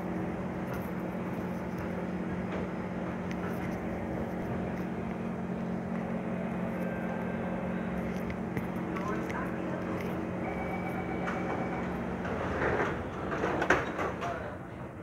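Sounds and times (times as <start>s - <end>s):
station ventilation: 0.0s - 15.0s
train air-conditioning hum: 0.0s - 15.0s.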